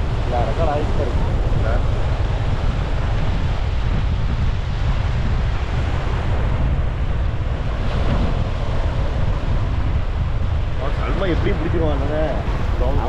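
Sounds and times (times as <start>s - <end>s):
sea waves breaking on a beach: 0.0s - 13.0s
wind buffeting microphone: 0.0s - 13.0s.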